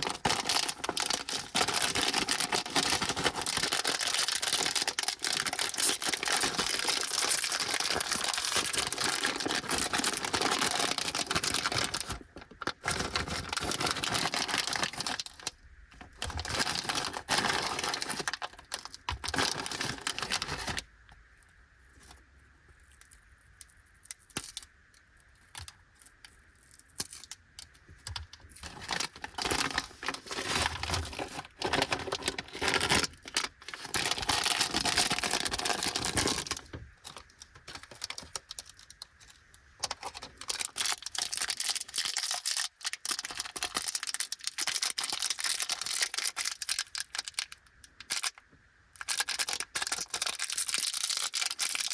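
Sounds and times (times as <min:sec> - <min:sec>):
plastic wrappers crinkling: 0:00.0 - 0:20.9, 0:28.0 - 0:48.4, 0:49.0 - 0:51.9.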